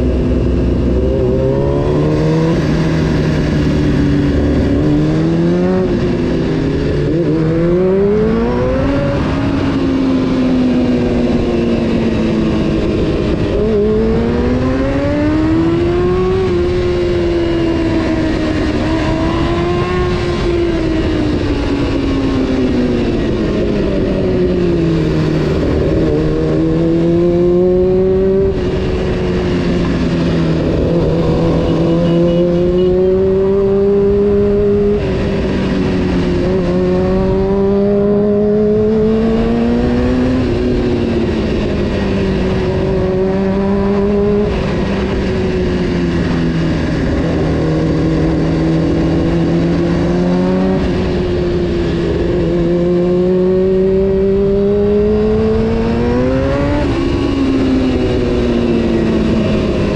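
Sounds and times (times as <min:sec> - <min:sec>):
motorcycle engine revving: 0:00.0 - 0:59.9
rush of wind: 0:00.0 - 0:59.9.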